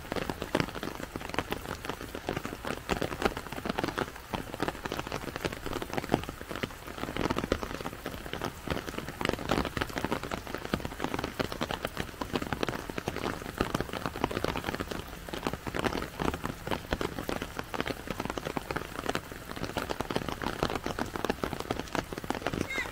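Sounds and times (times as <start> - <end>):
raindrops ticking on umbrella: 0.0 - 22.9
steady rain: 0.0 - 22.9.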